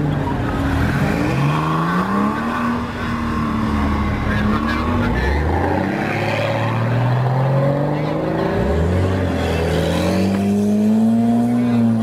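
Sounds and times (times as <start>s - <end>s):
car engines accelerating: 0.0s - 12.0s.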